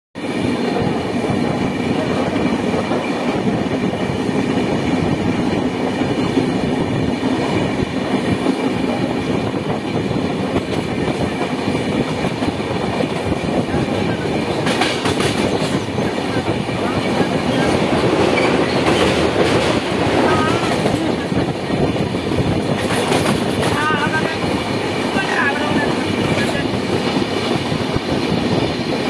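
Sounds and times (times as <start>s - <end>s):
train rattle: 0.2s - 29.0s
train wheels rumbling on rails: 0.2s - 29.0s.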